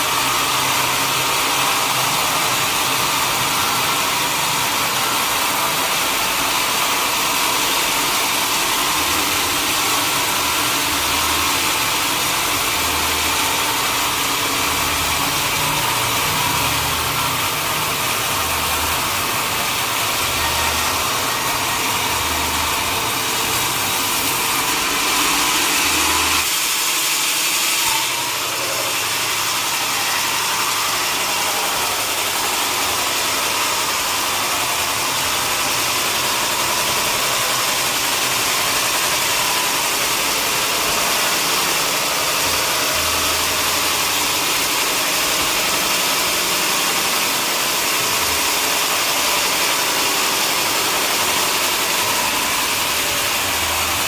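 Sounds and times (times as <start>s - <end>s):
sawmill machinery hissing: 0.0s - 54.0s.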